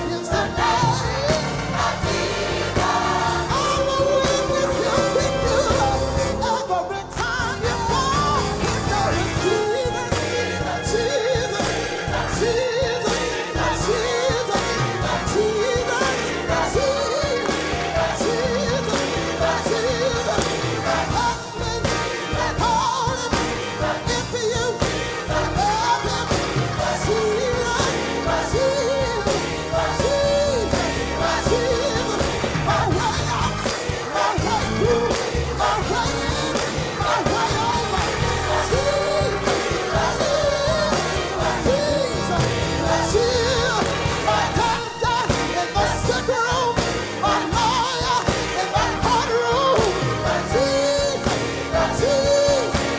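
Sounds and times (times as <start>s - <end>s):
gospel choir singing: 0.0s - 52.9s
lead vocalist singing: 0.0s - 52.9s
steady beat: 7.2s - 52.9s.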